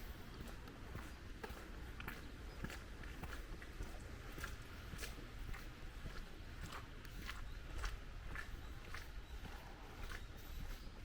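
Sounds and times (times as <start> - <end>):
footsteps on wet pavement: 0.0 - 11.0.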